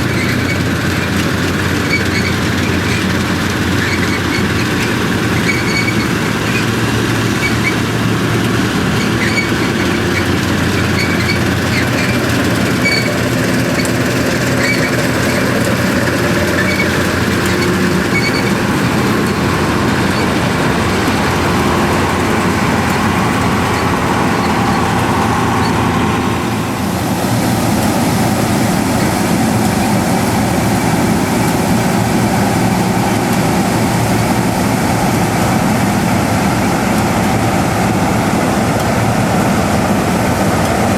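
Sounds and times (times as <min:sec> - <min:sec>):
combine harvester running: 0:00.0 - 0:40.9
threshing machinery clattering: 0:00.0 - 0:40.9.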